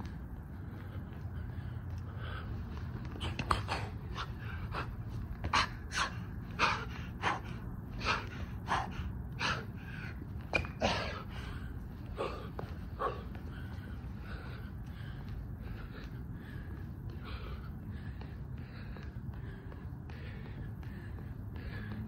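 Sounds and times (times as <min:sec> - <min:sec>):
man breathing hard: 0:00.0 - 0:22.0.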